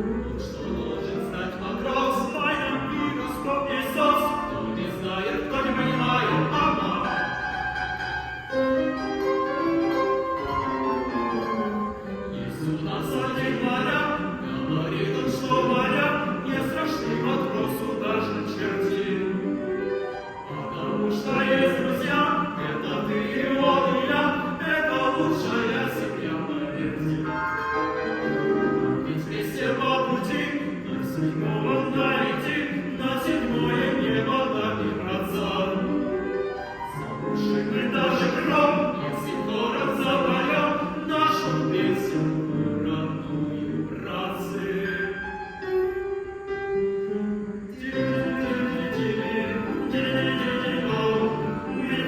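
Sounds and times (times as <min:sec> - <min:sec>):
men singing operatically: 0:00.0 - 0:07.6, 0:11.5 - 0:19.6, 0:20.5 - 0:27.6, 0:28.2 - 0:36.1, 0:37.0 - 0:45.2, 0:47.8 - 0:52.0
piano accompaniment: 0:00.0 - 0:52.0.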